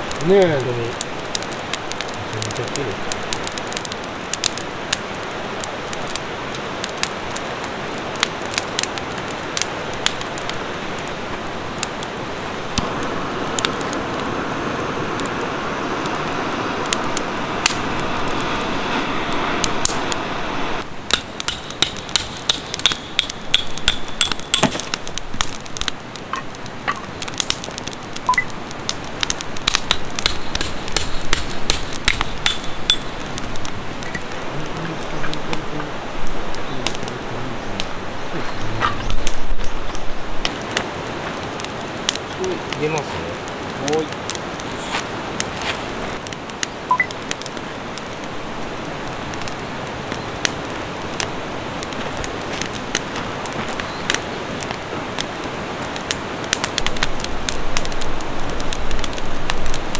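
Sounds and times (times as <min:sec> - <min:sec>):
river rushing: 0:00.0 - 0:59.9
wood fire crackling: 0:00.0 - 0:59.9.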